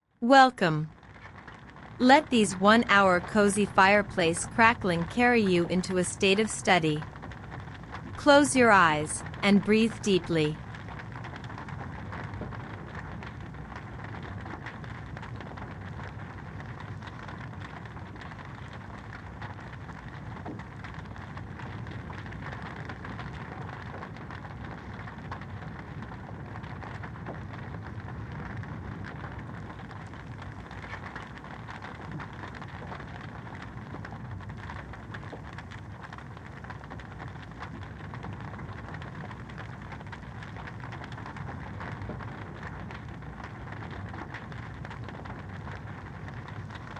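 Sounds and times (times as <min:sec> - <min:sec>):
wood fire crackling: 0:01.0 - 0:06.2, 0:06.9 - 0:46.9.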